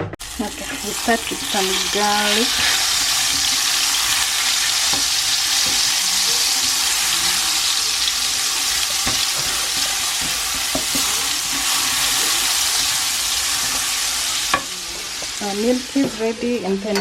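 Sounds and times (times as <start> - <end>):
garlic sizzling in a pan: 0.2 - 17.0.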